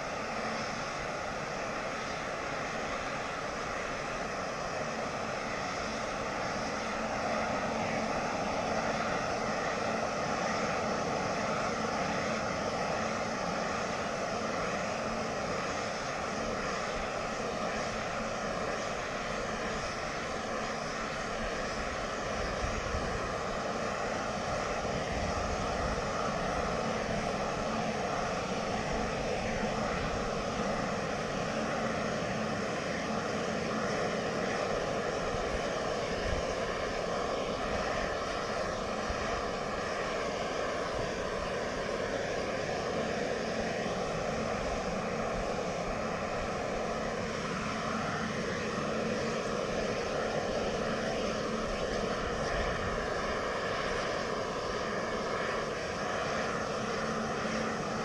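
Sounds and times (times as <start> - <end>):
rushing flame of heat gun: 0.0 - 58.0.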